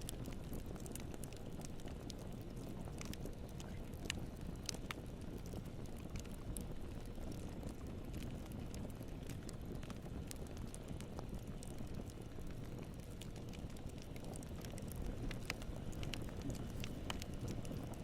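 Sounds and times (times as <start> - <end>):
campfire flame rumble: 0.0 - 18.0
fire crackling and popping: 0.0 - 18.0.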